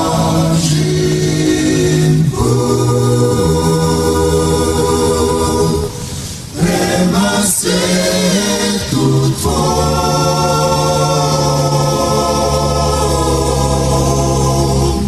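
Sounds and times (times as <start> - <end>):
choir singing chords: 0.0 - 15.0.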